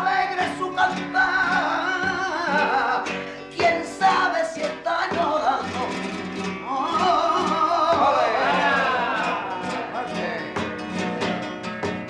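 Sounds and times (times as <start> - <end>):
flamenco guitar: 0.0 - 12.0
man singing flamenco: 0.0 - 12.0.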